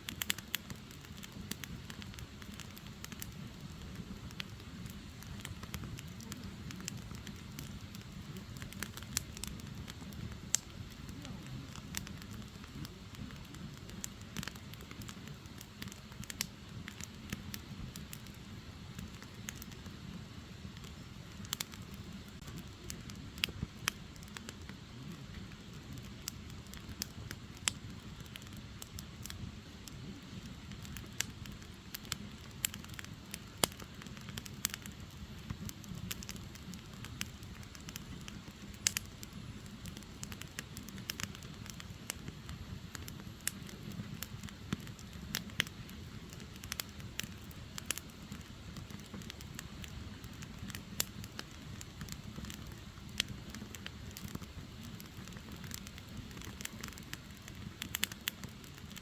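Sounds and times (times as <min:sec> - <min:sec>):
fire popping and crackling: 0:00.0 - 0:59.0
firewood burning: 0:00.0 - 0:59.0.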